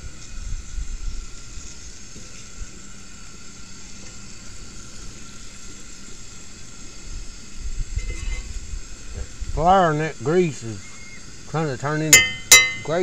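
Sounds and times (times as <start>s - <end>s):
chicken frying in grease: 0.0s - 13.0s.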